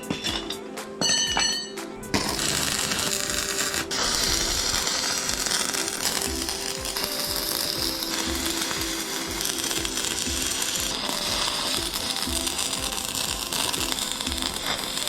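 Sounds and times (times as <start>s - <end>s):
background music with steady beat: 0.0s - 15.0s.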